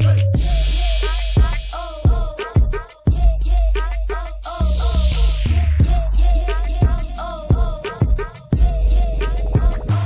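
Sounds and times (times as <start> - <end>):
music with deep bass and hi-hat: 0.0 - 10.0.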